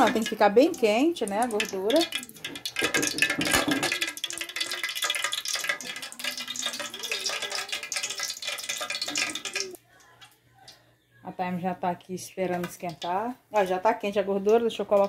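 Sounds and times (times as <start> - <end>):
fat crackling and sizzling in a pan: 0.0 - 10.9, 12.6 - 15.0.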